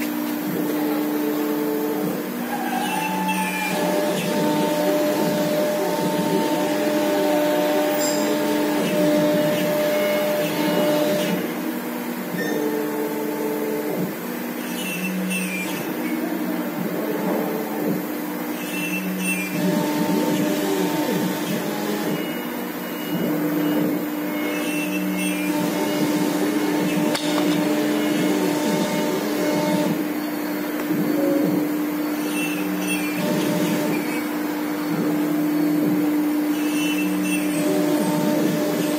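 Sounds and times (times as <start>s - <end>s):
router machine humming: 0.0s - 38.9s.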